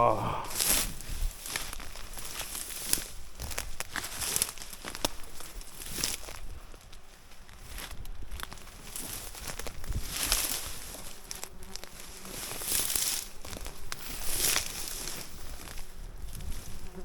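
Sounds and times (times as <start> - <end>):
rustling through scrub and ferns: 0.0 - 17.0.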